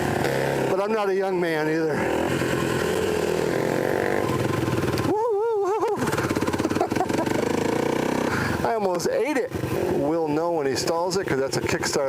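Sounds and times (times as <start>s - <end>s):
dirt bike engine drone: 0.0s - 12.0s.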